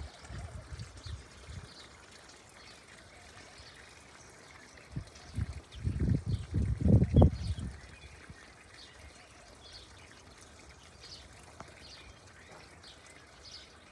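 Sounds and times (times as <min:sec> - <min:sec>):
faint trickling water: 0:00.0 - 0:13.9.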